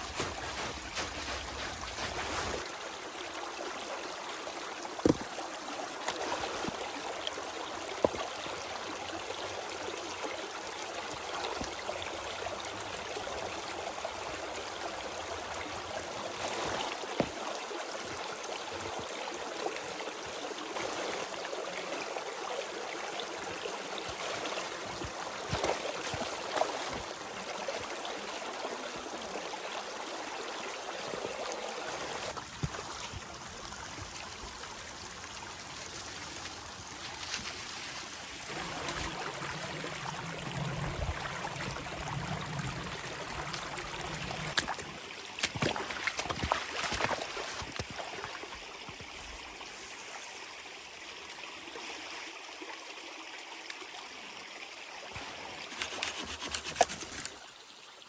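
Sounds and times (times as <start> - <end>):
running water trickling: 0.0 - 51.5, 55.2 - 58.0.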